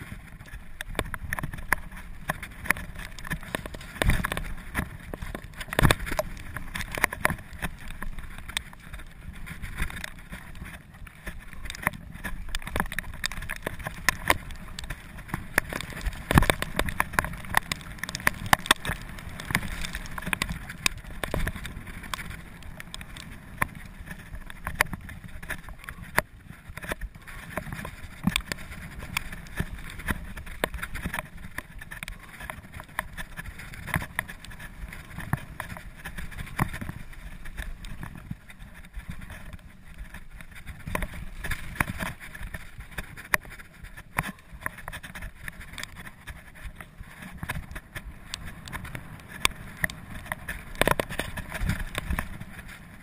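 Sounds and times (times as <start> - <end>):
bike knocking and rattling: 0.0 - 53.0
bike tyres rumbling on dirt: 0.0 - 53.0
wind on microphone: 0.0 - 53.0.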